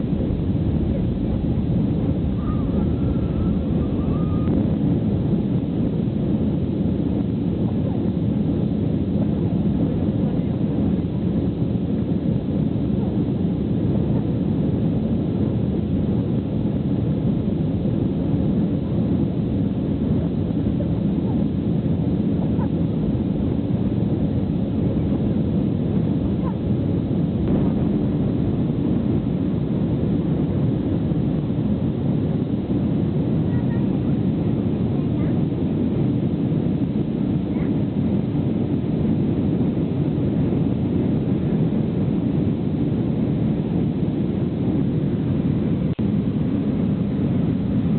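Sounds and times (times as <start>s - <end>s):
jet engines rumbling in cabin: 0.0s - 47.9s.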